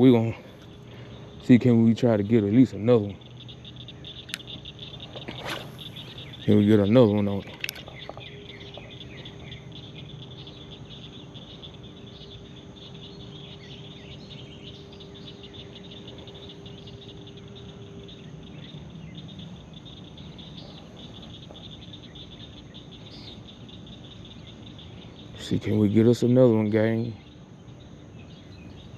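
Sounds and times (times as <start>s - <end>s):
crickets chirping: 0.0s - 28.9s
faint steady tone: 0.0s - 28.9s
low steady hum: 0.0s - 28.9s.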